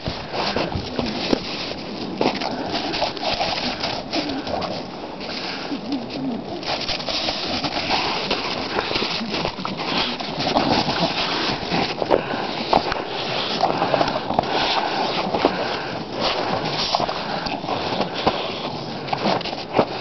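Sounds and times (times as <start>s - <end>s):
dogs scuffling in snow: 0.0s - 20.0s.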